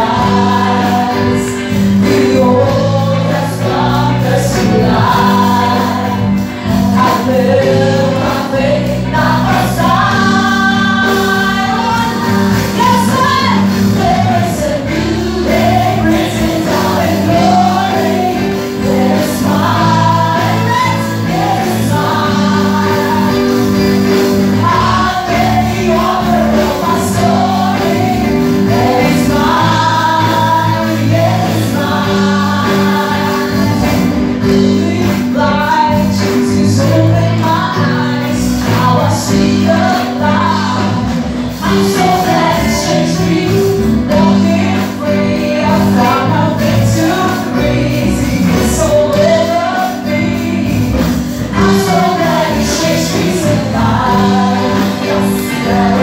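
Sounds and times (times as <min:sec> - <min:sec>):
live band with drums: 0:00.0 - 0:56.0
women singing gospel song: 0:00.0 - 0:56.0.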